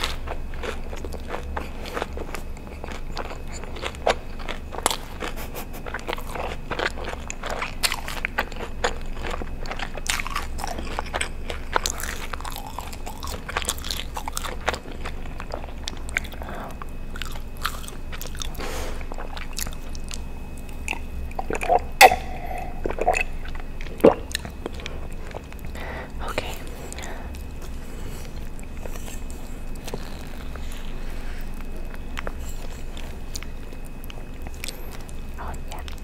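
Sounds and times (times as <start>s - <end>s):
chewing and biting: 0.0s - 36.0s.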